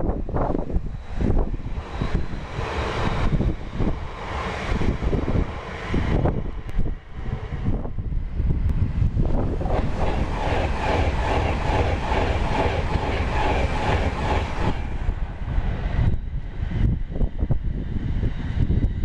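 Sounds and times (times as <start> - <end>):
train passing at speed: 0.0 - 19.0
wind buffeting the microphone: 0.0 - 19.0.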